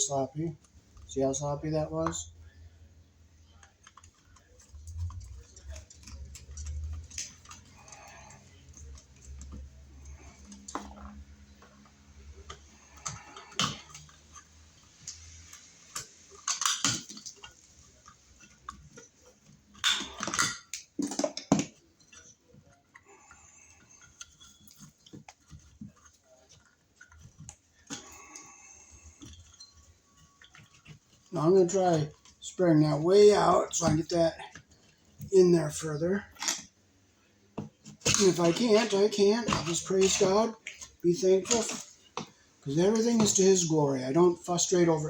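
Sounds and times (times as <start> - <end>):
hand tools clicking and scraping: 3.5 - 36.7, 37.6 - 45.0.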